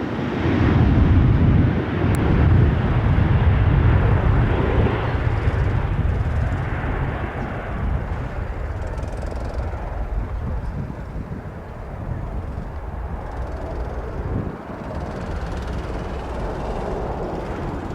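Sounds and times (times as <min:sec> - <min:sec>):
jet airliner engines at takeoff: 0:00.0 - 0:17.9.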